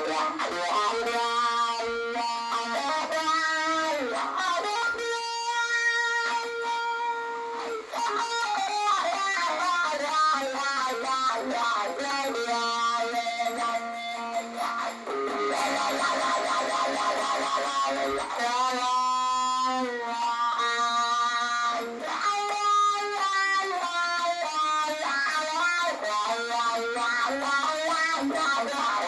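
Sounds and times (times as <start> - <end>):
electric guitar lead melody: 0.0 - 29.0.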